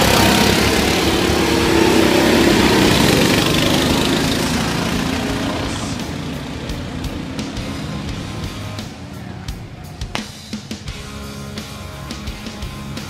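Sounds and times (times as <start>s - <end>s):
go-kart engines passing: 0.0s - 13.0s.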